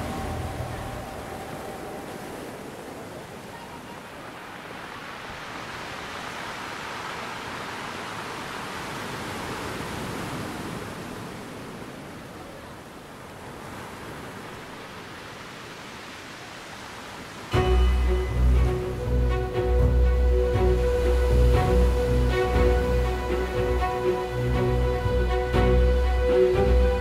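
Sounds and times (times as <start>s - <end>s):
rushing water noise: 0.0s - 27.0s.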